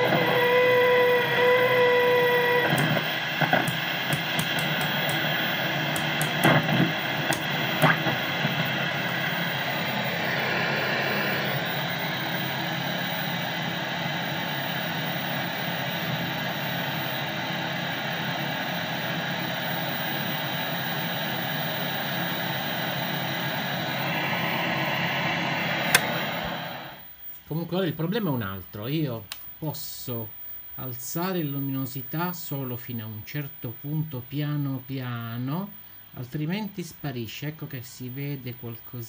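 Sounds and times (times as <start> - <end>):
television static hiss: 0.0 - 39.0.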